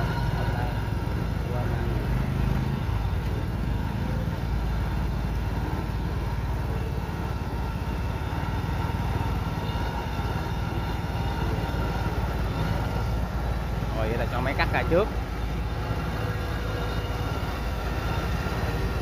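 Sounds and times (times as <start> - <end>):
diesel engine rumbling: 0.0 - 19.0
faint steady whine: 0.0 - 19.0.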